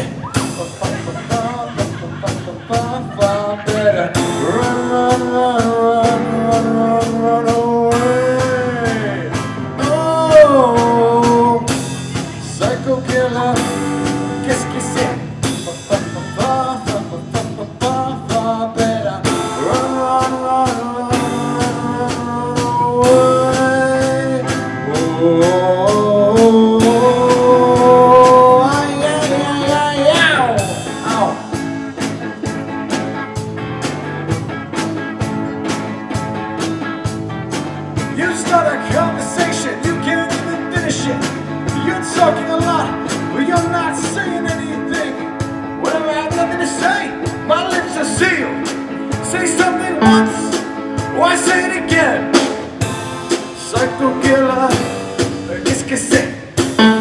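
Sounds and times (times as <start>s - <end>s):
bending lead guitar notes: 0.0s - 55.7s, 56.6s - 57.0s
live rock band: 0.0s - 57.0s.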